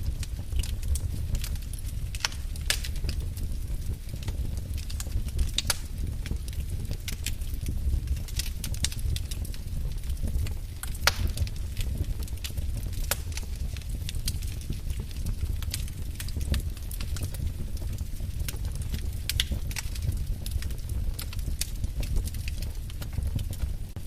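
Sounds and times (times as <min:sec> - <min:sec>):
low rumble of burning: 0:00.0 - 0:24.0
wood fire crackling: 0:00.0 - 0:24.0.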